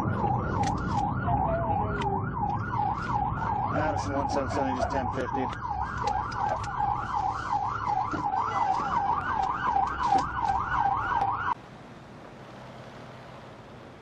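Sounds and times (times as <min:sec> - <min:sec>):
siren yelping: 0:00.0 - 0:11.6.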